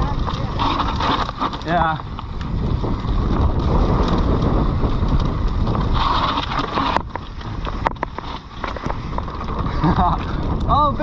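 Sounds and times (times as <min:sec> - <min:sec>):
bike tyres rumbling over trail: 0:00.0 - 0:11.0
wind buffeting microphone: 0:00.0 - 0:11.0.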